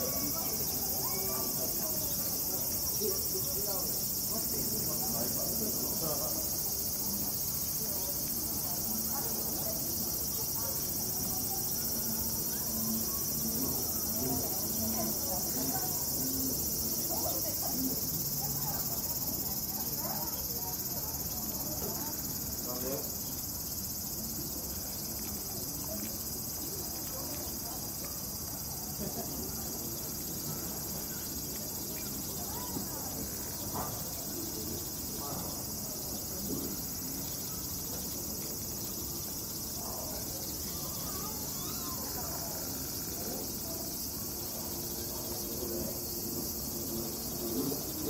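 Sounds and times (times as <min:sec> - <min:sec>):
insects droning: 0:00.0 - 0:48.0.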